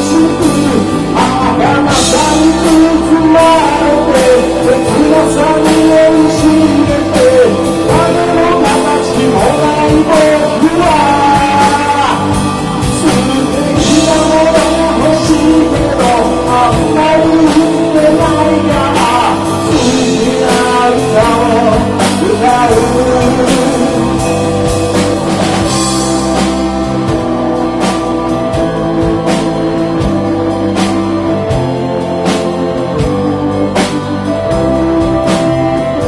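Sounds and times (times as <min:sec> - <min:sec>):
lead vocal singing: 0:00.0 - 0:36.0
live rock band playing: 0:00.0 - 0:36.0.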